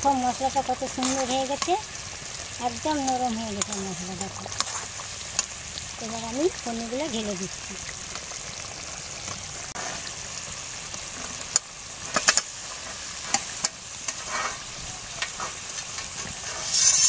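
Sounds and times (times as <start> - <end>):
gravy sizzling in a pan: 0.0 - 17.0.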